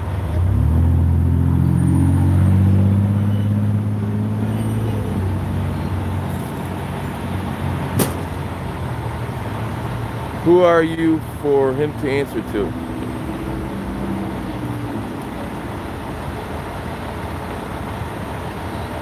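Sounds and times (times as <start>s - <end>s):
large vehicle engine running: 0.0s - 19.0s.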